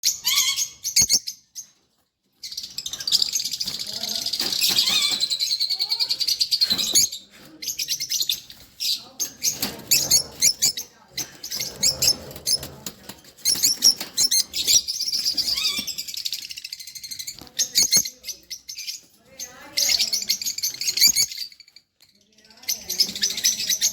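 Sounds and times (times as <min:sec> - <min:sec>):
lovebirds chirping and chattering: 0:00.0 - 0:23.9.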